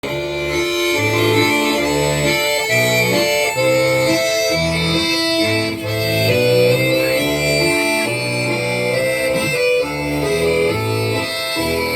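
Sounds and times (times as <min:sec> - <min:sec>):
accordion playing: 0:00.0 - 0:11.9.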